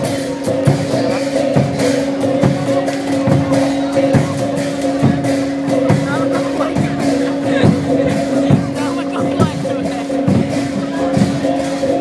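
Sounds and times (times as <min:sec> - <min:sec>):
regular drumbeat: 0:00.0 - 0:12.0.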